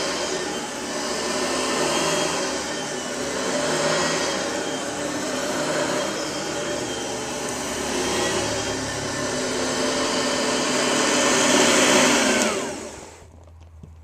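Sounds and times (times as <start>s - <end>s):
vacuum cleaner motor running: 0.0s - 13.3s.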